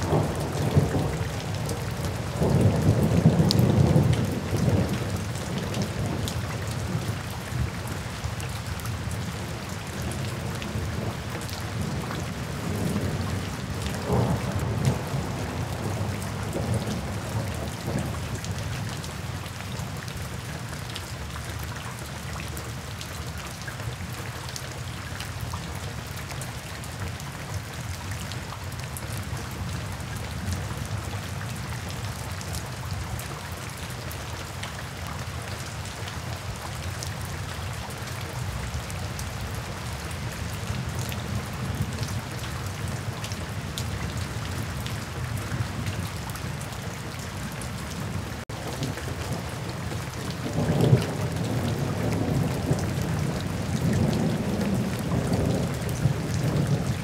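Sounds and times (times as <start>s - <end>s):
rain drops ticking: 0.0s - 57.0s.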